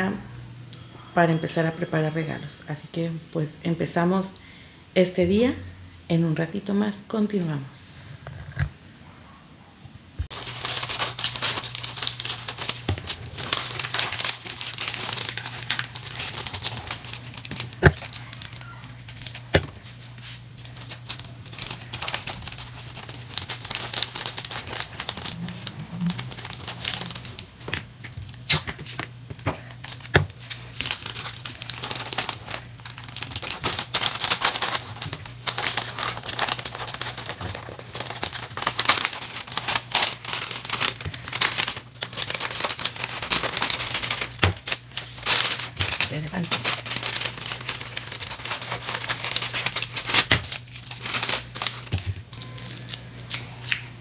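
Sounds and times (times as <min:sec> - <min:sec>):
steady low hum: 0:00.0 - 0:54.0
wrapping paper crinkling: 0:10.3 - 0:54.0.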